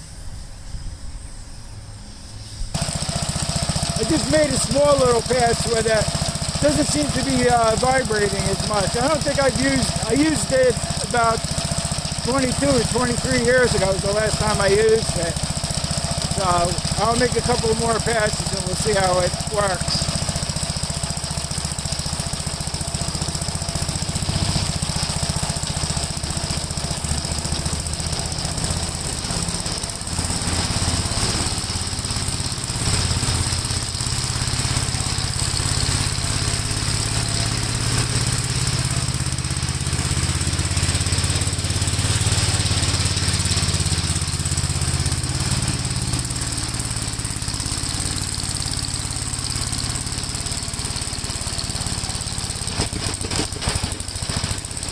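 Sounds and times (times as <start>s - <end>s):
sickle bar mower cutting grass: 2.7s - 54.9s
tractor engine running under load: 2.7s - 54.9s.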